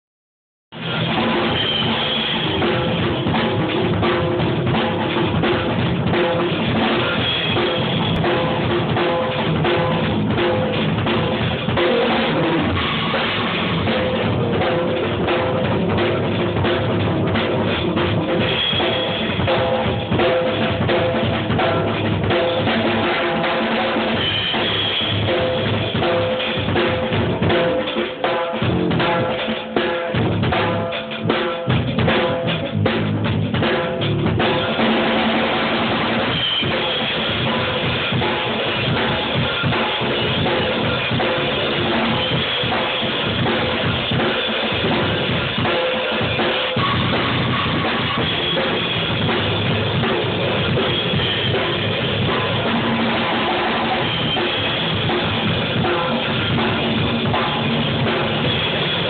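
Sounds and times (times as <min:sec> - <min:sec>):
fast drum kit solo: 0:00.7 - 0:59.0.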